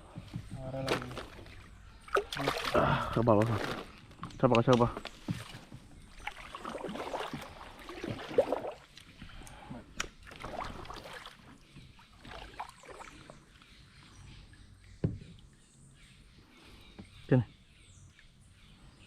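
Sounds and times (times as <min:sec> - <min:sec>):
rustling and shifting in a kayak: 0:00.0 - 0:19.0.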